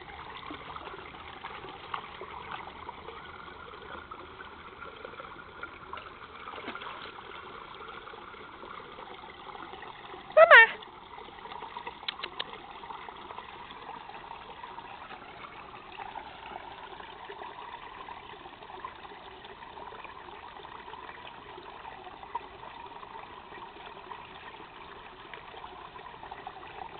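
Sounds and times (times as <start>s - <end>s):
water trickling: 0.0s - 26.9s.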